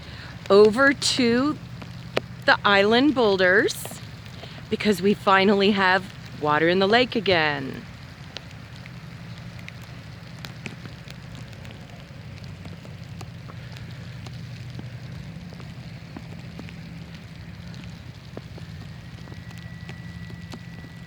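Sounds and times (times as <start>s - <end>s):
irregular ticks: 0.0s - 21.0s
steady low hum: 0.0s - 21.0s.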